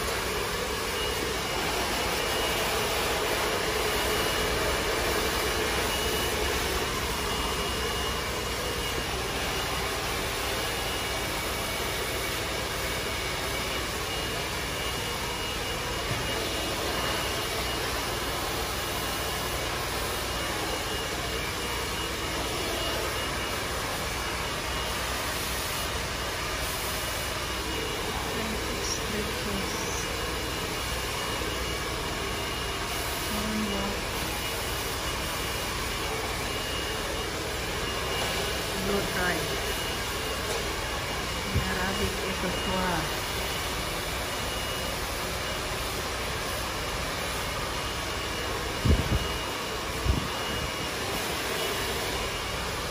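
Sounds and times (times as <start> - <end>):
hair dryer blowing: 0.0 - 52.9.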